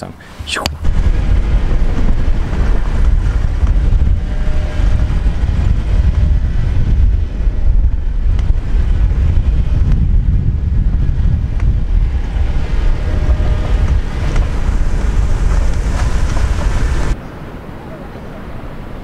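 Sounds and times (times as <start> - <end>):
vehicle running noise: 0.0 - 17.4
wind buffeting microphone: 0.2 - 19.0.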